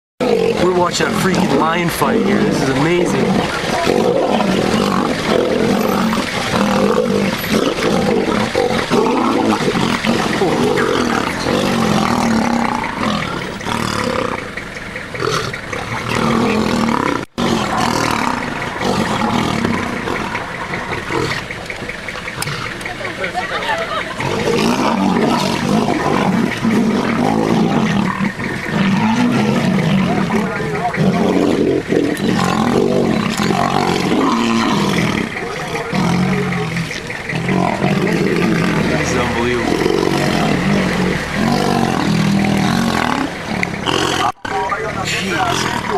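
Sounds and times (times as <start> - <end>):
lions roaring and fighting: 0.2 - 45.9.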